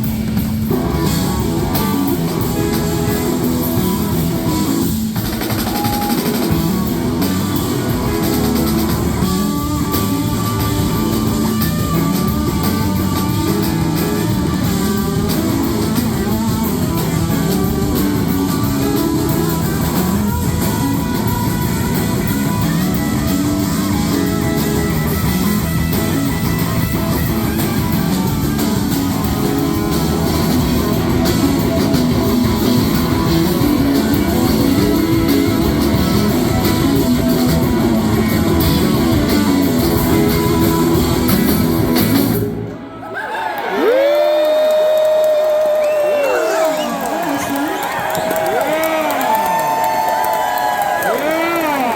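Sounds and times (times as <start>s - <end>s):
electric guitar: 0.0s - 43.0s
live rock band playing: 0.0s - 43.0s, 43.9s - 51.9s.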